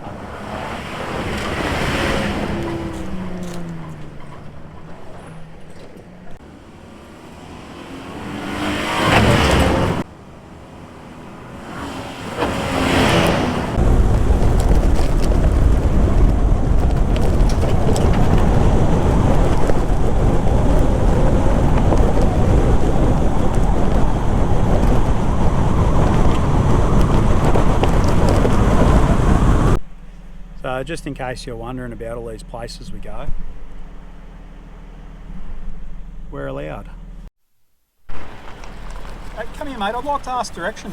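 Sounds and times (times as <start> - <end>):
truck engine rumbling on dirt: 0.0 - 10.5, 11.3 - 37.3, 38.1 - 40.9.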